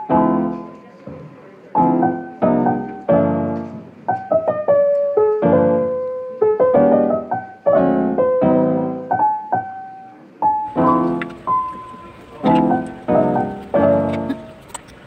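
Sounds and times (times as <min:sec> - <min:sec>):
piano music: 0:00.0 - 0:14.8.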